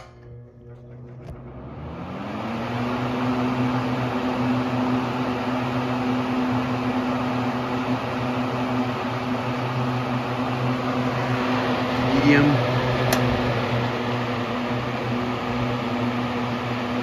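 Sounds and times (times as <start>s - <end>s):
box fan motor hum: 0.0s - 17.0s.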